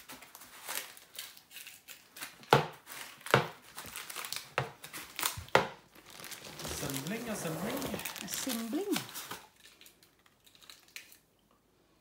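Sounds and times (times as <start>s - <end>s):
plastic packaging rustling: 0.0s - 11.3s.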